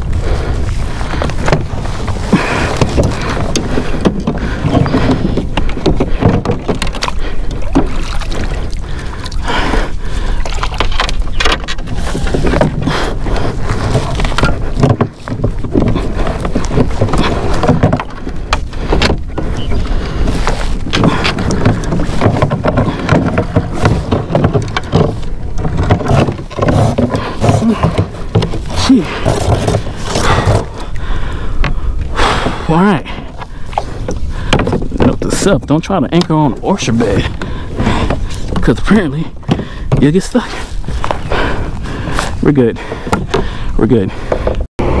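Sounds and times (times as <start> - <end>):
pole knocking and scraping boat: 0.0 - 45.0
water sloshing around hull: 0.0 - 45.0.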